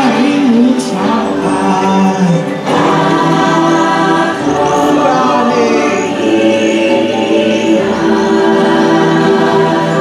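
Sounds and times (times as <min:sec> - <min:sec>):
choir singing long notes: 0:00.0 - 0:10.0.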